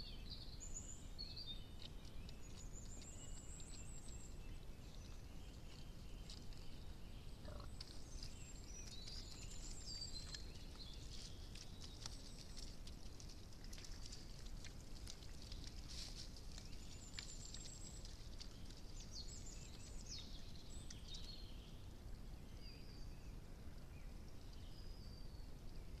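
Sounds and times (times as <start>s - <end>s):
small birds singing: 0.0s - 14.4s, 15.0s - 26.0s.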